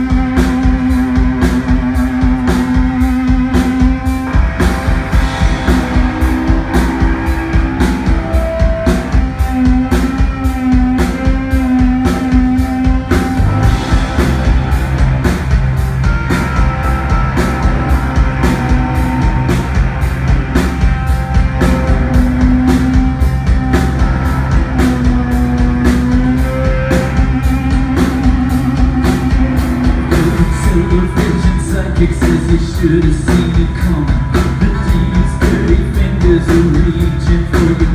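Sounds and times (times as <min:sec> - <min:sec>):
bass guitar: 0:00.0 - 0:37.9
drum kit steady beat: 0:00.0 - 0:37.9
electric and acoustic guitars: 0:00.0 - 0:37.9.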